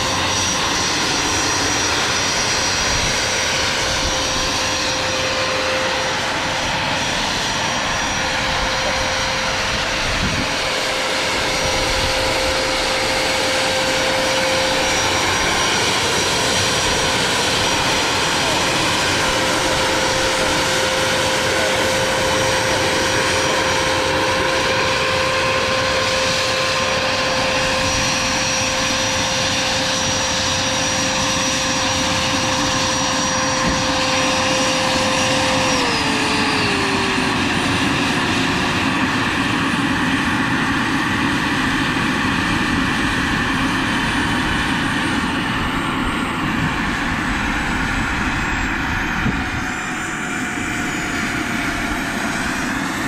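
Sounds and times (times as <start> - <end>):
helicopter rotor noise: 0.0 - 53.0
turbine whine: 0.0 - 53.0.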